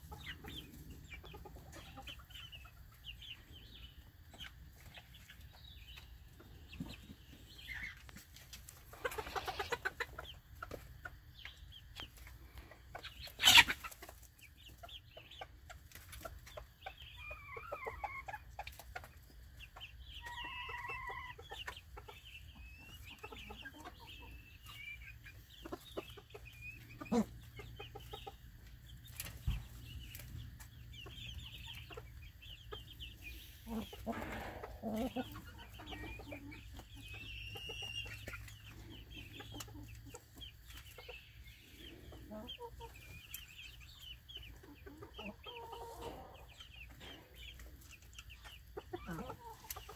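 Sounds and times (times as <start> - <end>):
chickens clucking: 0.0 - 49.9
chickens scratching: 4.4 - 49.9.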